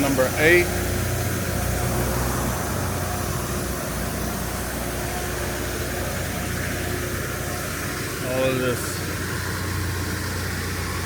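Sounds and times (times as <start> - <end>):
engine running steadily: 0.0 - 11.0
faint constant tone: 0.0 - 11.0.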